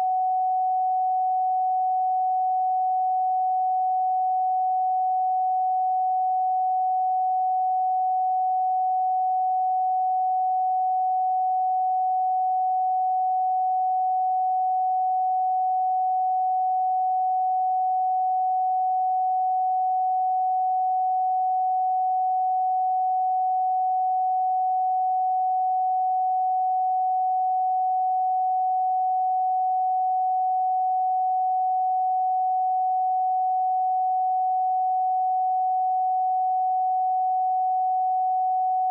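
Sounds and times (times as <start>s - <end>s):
high-pitched electronic sine tone: 0.0s - 38.9s.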